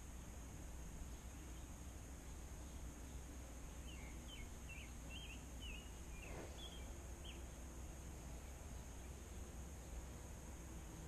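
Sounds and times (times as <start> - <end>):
faint outdoor hiss: 0.0 - 11.0
songbird chirping: 0.0 - 11.0.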